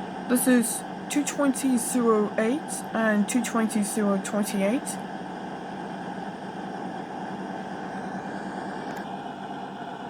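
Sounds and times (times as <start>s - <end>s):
diesel engines idling hum: 0.0s - 10.0s.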